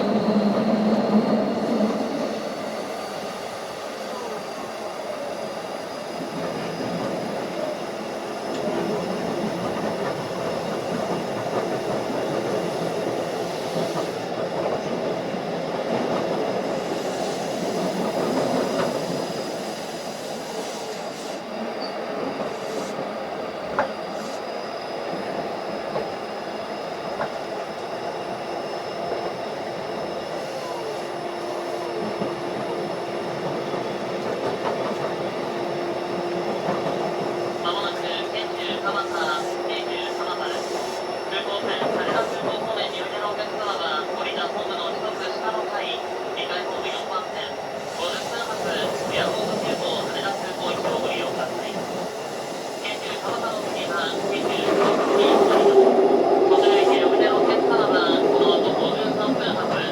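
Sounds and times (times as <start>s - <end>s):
electric train running on track: 0.0s - 59.9s.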